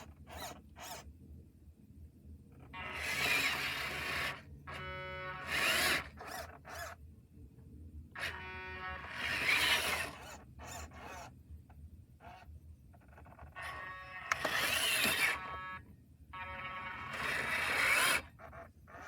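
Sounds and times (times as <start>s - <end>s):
small electric motor whine: 0.0s - 1.0s, 2.7s - 7.0s, 8.2s - 11.3s, 12.2s - 19.0s.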